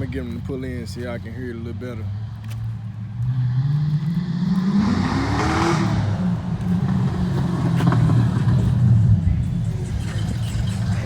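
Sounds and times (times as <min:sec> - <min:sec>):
car engine revving: 0:01.7 - 0:11.0.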